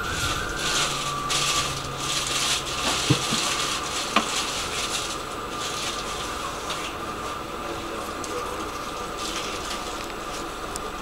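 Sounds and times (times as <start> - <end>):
steady high whine: 0.0 - 11.0
tram running noise hissing: 0.0 - 11.0.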